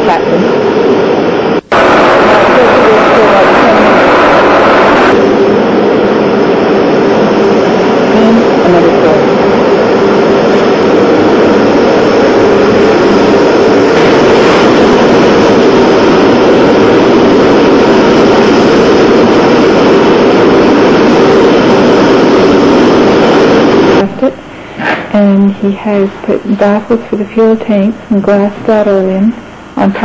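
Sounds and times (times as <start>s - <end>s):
gas burner roaring: 0.0s - 27.1s.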